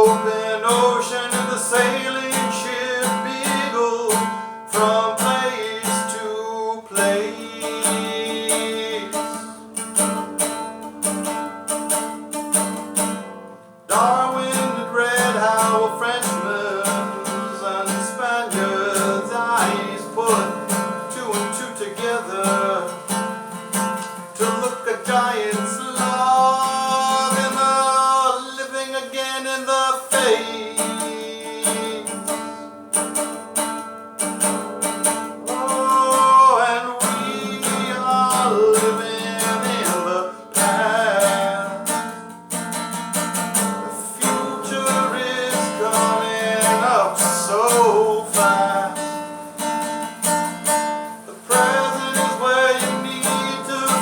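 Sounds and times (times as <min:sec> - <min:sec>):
man singing: 0:00.0 - 0:11.4, 0:13.9 - 0:33.4, 0:34.2 - 0:54.0
acoustic guitar strumming: 0:00.0 - 0:54.0.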